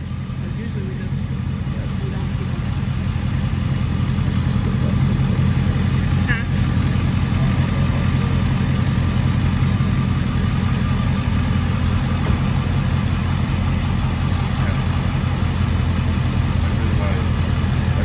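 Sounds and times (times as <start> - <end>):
car engine idling with low rumble: 0.0 - 18.0.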